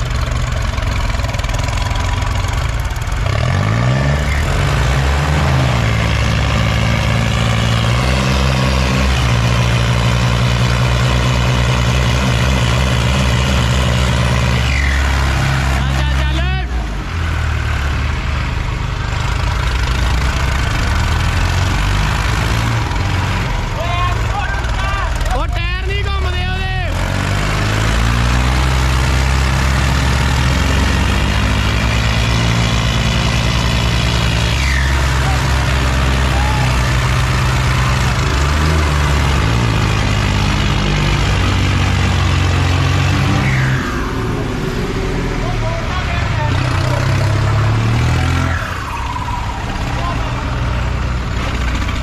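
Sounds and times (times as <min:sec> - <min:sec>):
diesel engine droning: 0:00.0 - 0:52.0.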